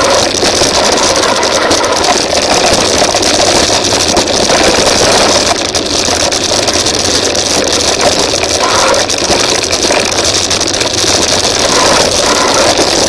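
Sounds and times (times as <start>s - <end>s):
bike clicks and rattles: 0.0s - 13.0s
bike tyres rolling over dirt: 0.0s - 13.0s.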